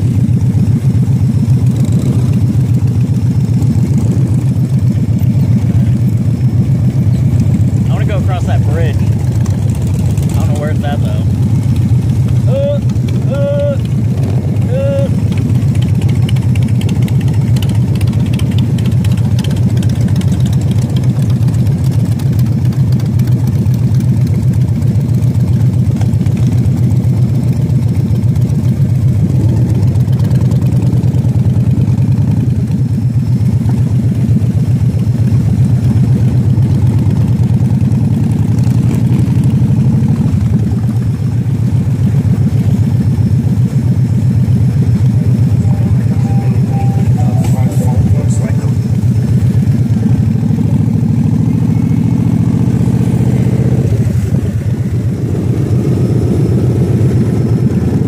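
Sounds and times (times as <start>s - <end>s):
motorcycle engine rumbling: 0.0s - 58.0s.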